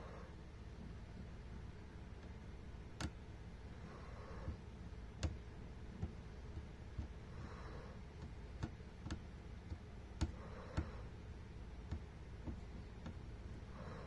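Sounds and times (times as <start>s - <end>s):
low steady hum: 0.0s - 14.0s
sharp clicks and taps: 0.8s - 3.3s, 4.2s - 7.4s, 8.0s - 13.6s.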